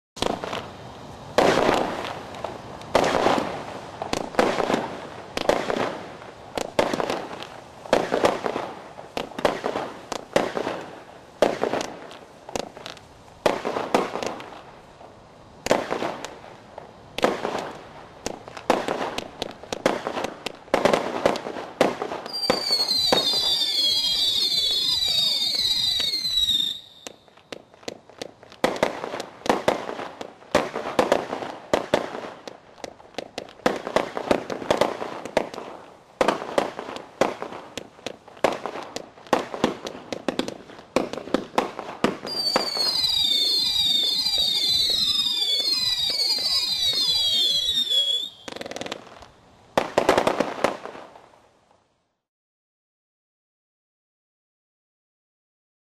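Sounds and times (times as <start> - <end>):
firework bangs: 0.2 - 51.2
whistling firework shots: 1.3 - 14.7, 15.6 - 16.5, 17.2 - 49.2.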